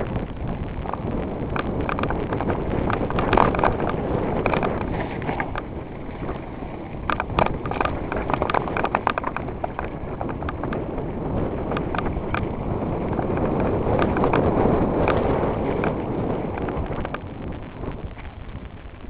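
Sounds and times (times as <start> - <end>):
bike rattling over bumps: 0.0 - 19.0
bike tyres rumbling on dirt: 0.0 - 19.0
wind on microphone: 0.0 - 19.0.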